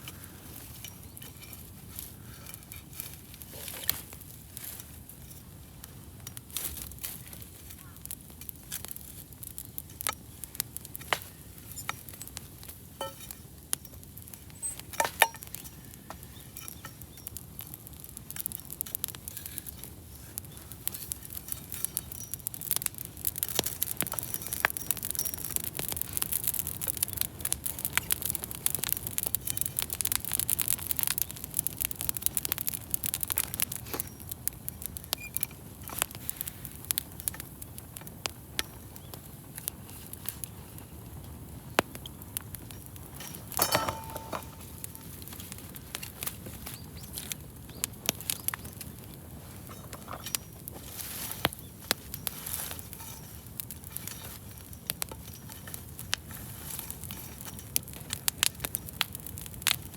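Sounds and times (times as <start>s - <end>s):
bonfire crackling and popping: 0.0s - 59.9s
soft fire hiss: 0.0s - 59.9s.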